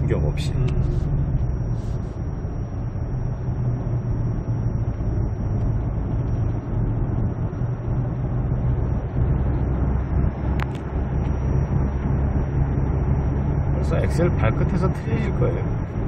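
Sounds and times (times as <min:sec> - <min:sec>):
car engine drone from inside: 0:00.0 - 0:16.0
road noise: 0:00.0 - 0:16.0.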